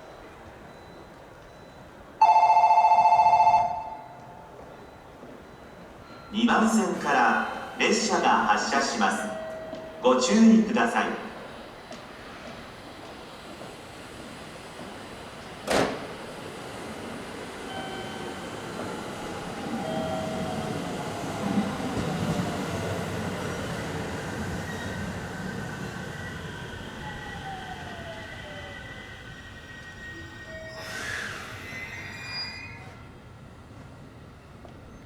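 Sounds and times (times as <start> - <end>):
electric train inverter whine: 0.0 - 35.0
train wheel rumble: 0.0 - 35.0.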